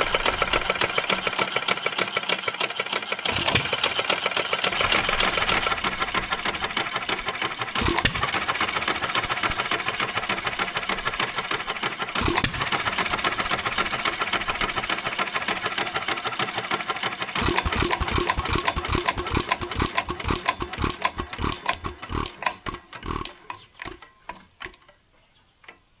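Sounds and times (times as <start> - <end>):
gas engine clattering: 0.0 - 25.1.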